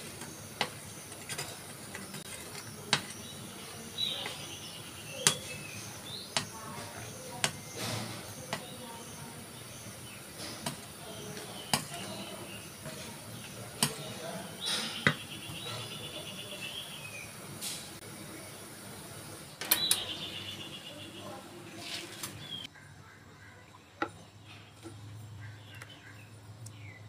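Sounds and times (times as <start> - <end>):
low background noise: 0.0 - 27.0.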